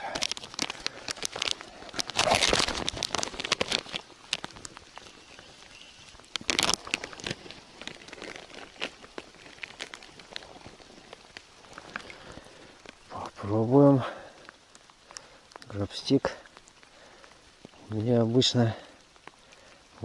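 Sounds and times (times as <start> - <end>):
crinkling handling noise: 0.0 - 20.0
raindrops tapping on camera: 0.0 - 20.0.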